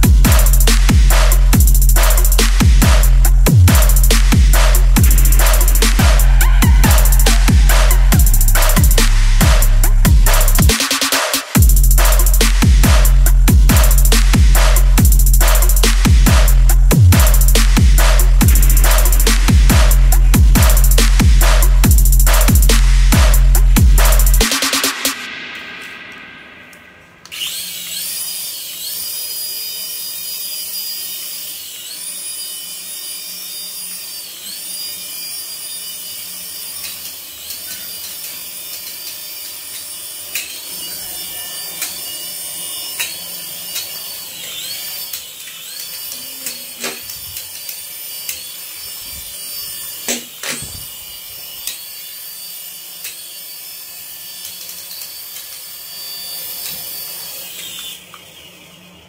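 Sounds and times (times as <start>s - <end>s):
toy helicopter rotor whine: 0.0s - 22.6s, 24.0s - 59.0s.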